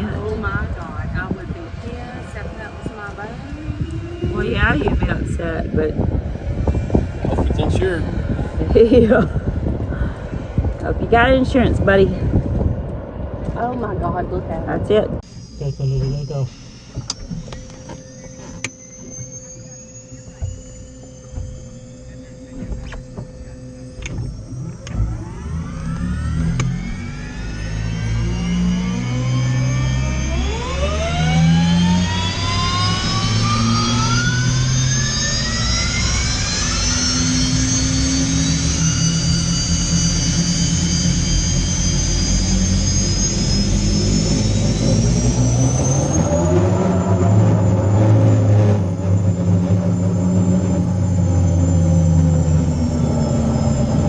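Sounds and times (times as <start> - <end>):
continuous low rumble: 0.0 - 54.0
engine whine climbing in pitch: 0.0 - 54.0.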